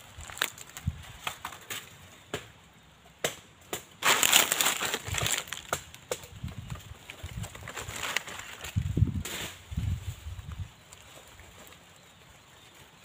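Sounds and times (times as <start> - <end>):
dry crunching and crackling: 0.0 - 2.6, 3.2 - 13.0.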